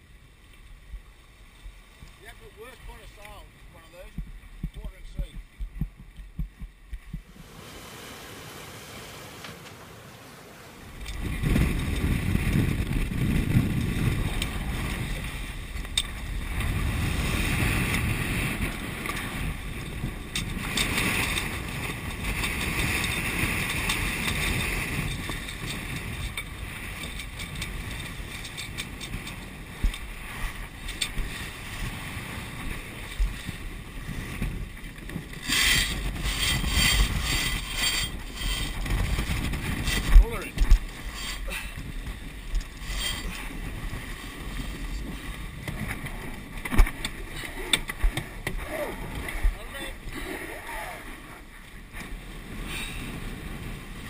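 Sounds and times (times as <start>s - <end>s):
water rushing past hull: 0.0s - 54.0s
wind buffeting microphone: 0.8s - 9.6s, 10.6s - 54.0s.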